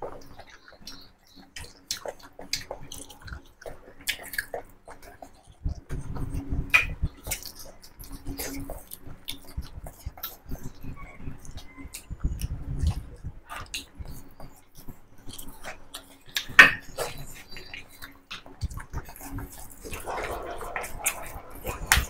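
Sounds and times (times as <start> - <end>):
wet chewing and mouth smacking: 0.0 - 22.0.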